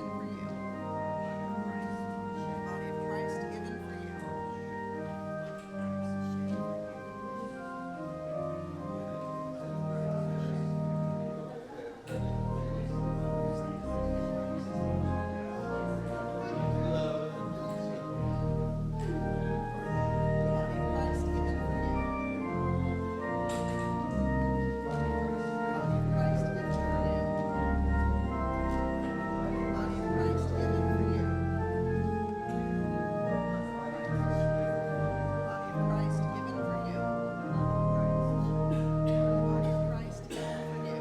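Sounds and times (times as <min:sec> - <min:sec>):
deep bass organ notes: 0:00.0 - 0:11.4, 0:12.2 - 0:40.9
organ chords: 0:00.0 - 0:41.0.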